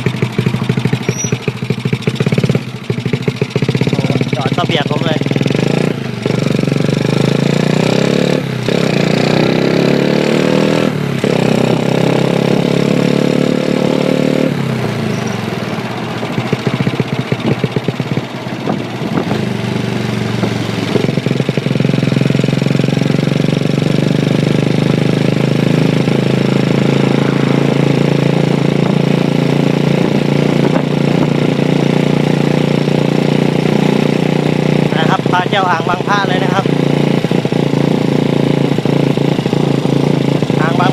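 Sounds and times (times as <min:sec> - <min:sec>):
minibike engine running: 0:00.0 - 0:40.9.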